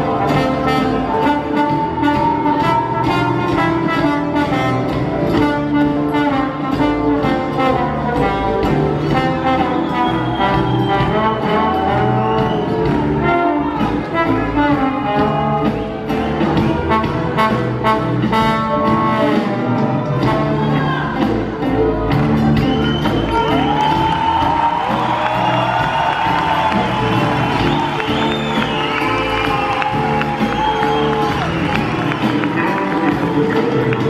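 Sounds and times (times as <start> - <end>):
bass and guitar: 0.0 - 34.0
steady drum beat: 0.0 - 34.0
trombone lead line: 0.0 - 34.0.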